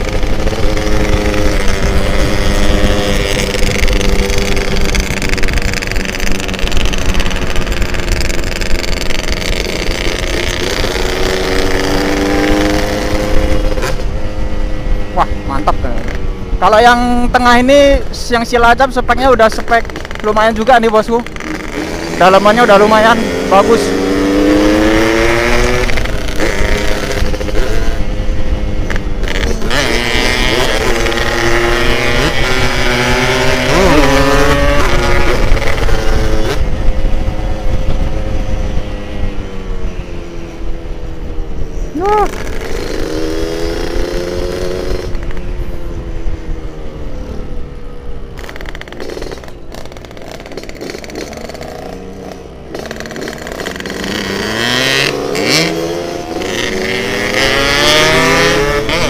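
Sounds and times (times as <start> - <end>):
wind on microphone: 0.0 - 22.2, 23.0 - 48.3
motorcycle engine revving: 0.0 - 59.0.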